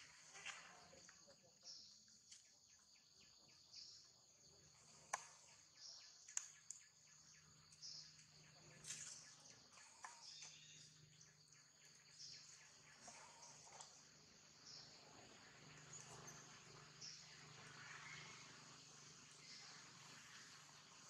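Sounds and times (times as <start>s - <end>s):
insect chorus drone: 0.0s - 21.0s.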